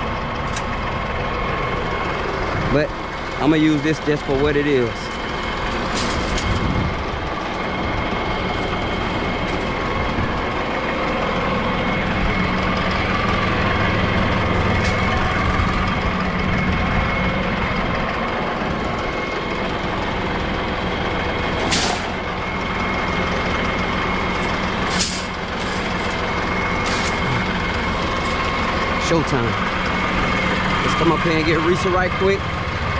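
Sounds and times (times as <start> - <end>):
vehicle engine running: 0.0 - 32.9.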